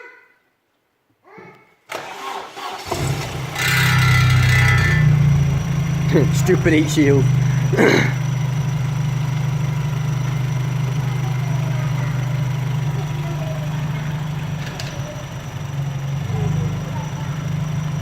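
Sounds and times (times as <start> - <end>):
car engine idling: 2.1 - 18.0.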